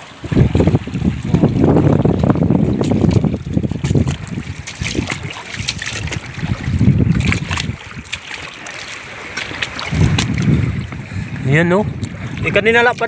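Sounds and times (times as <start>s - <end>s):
footsteps wading through water: 0.0s - 13.0s
wind buffeting microphone: 0.0s - 13.0s.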